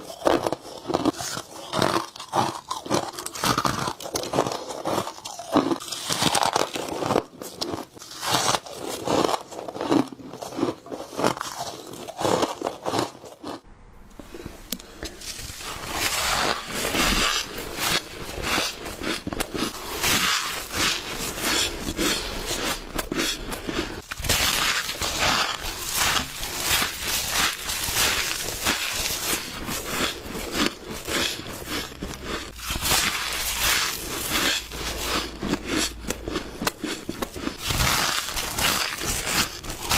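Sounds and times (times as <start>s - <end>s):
crunching of frost ice: 0.0s - 13.6s, 14.9s - 39.9s.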